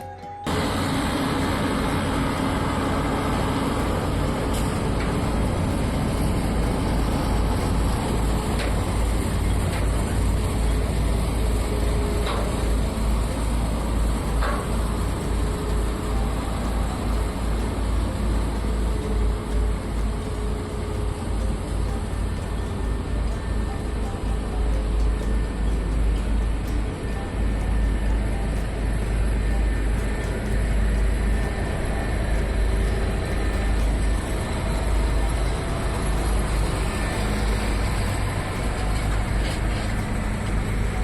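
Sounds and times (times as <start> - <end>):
faint clicks: 0.0 - 41.0
heavy truck engine rumbling: 0.0 - 41.0.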